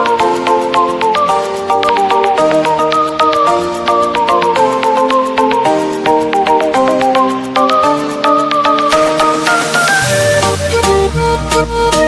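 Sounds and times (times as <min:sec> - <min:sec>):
plucked melody with steady beat: 0:00.0 - 0:12.0.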